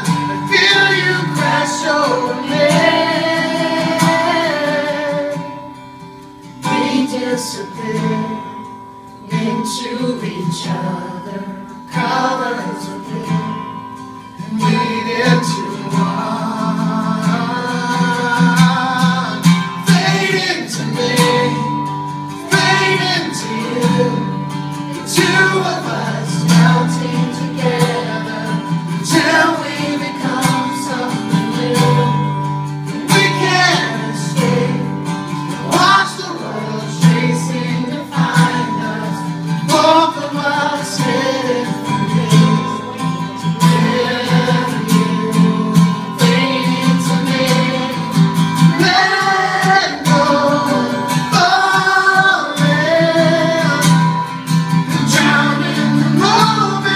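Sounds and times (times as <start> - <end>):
man singing: 0.0 - 5.7, 6.6 - 8.6, 9.2 - 13.8, 14.4 - 56.9
acoustic guitar strumming: 0.0 - 56.9.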